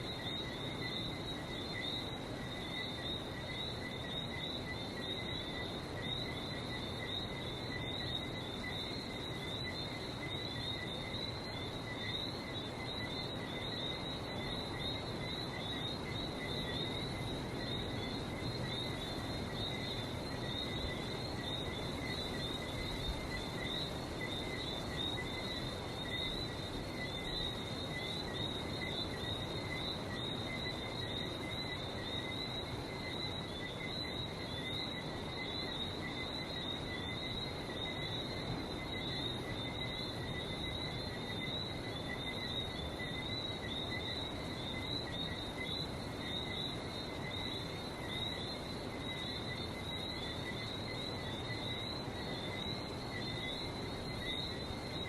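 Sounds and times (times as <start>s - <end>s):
frogs chirping: 0.0s - 55.0s.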